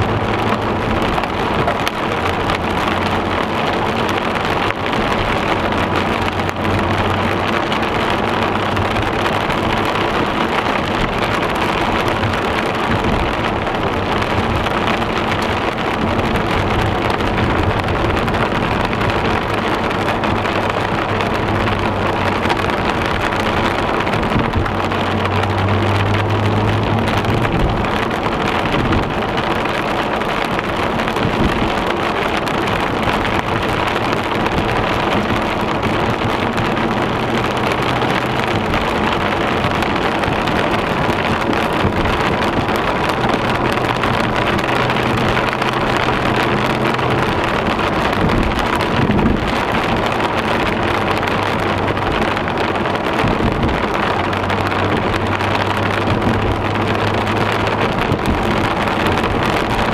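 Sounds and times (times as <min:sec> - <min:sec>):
rain on car body: 0:00.0 - 0:59.9
tyres on wet road: 0:00.0 - 0:59.9.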